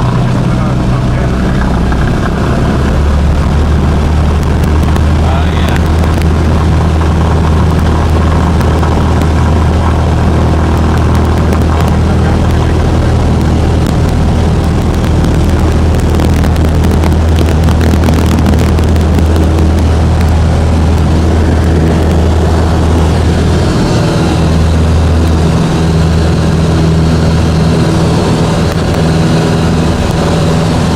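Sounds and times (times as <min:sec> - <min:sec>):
propeller plane engine droning: 0:00.0 - 0:30.9.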